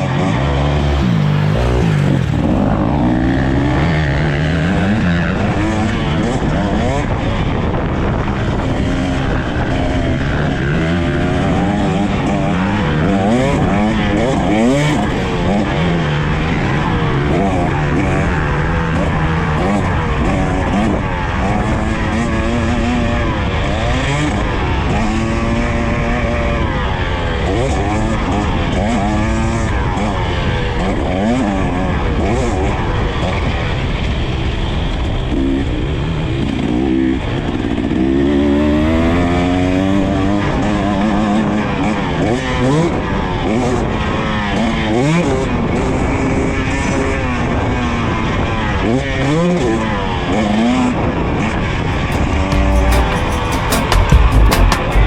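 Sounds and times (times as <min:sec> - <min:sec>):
two-stroke motorcycle engine revving: 0:00.0 - 0:55.0.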